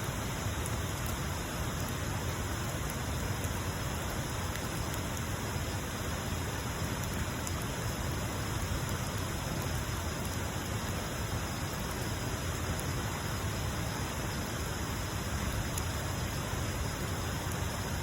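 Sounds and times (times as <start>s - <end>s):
faint fire crackles: 0.0s - 18.0s.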